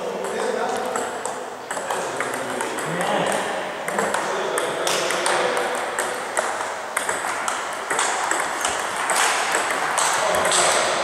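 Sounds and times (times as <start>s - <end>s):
table tennis ball clicking: 0.1s - 11.0s.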